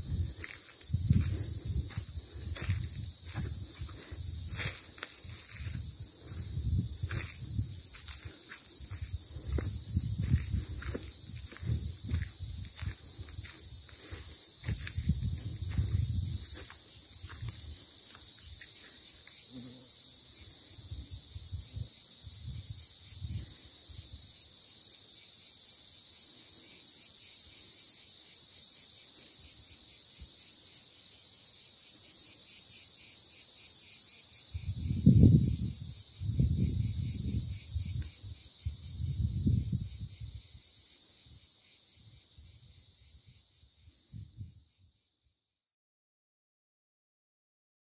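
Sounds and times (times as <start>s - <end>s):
cicadas buzzing: 0.0s - 45.5s.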